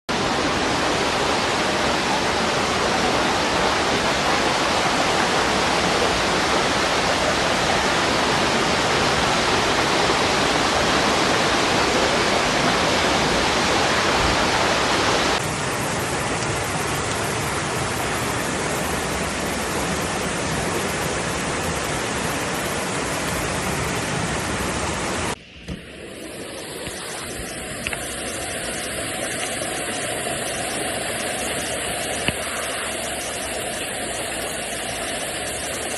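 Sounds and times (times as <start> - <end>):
floodwater rushing: 0.1 - 35.9.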